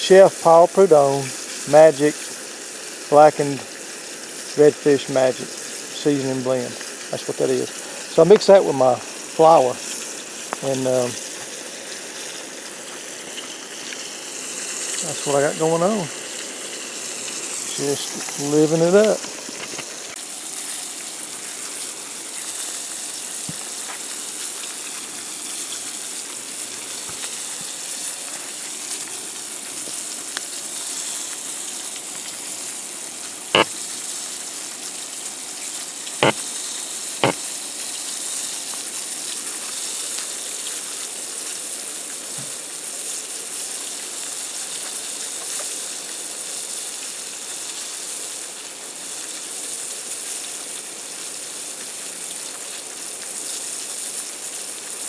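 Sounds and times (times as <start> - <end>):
fish frying in oil: 0.0 - 55.0.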